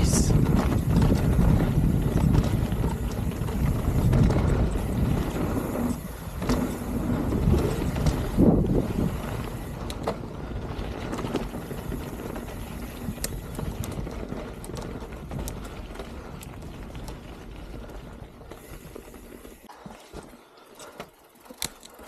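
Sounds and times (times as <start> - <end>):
wind rumble on microphone: 0.0 - 18.5
bike clicks and rattles: 0.0 - 22.0
bike tyres rolling on dirt trail: 0.0 - 22.0.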